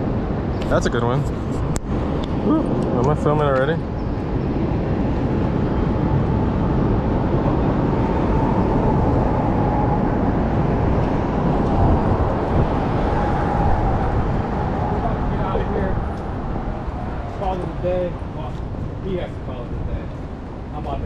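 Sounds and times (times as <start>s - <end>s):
city street noise: 0.0s - 21.0s.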